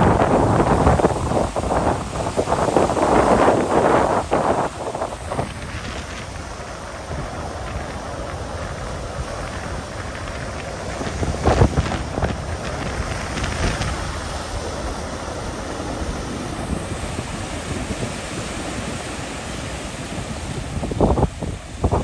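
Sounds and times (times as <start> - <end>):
sea waves breaking on shore: 0.0 - 22.0
wind buffeting microphone: 0.0 - 22.0.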